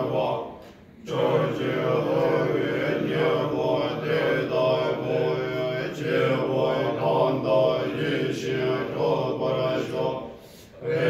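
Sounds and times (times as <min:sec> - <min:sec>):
monks chanting in low voices: 0:00.0 - 0:11.0.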